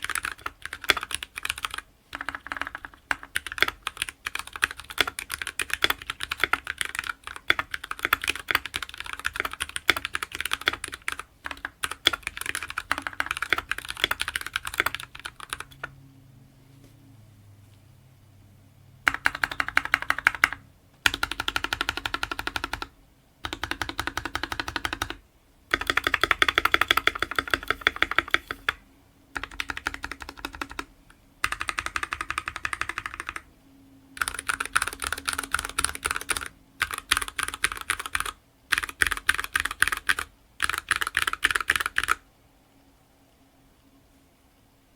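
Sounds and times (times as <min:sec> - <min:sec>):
rapid mechanical keyboard typing: 0:00.0 - 0:15.9, 0:19.0 - 0:33.5, 0:34.2 - 0:42.2.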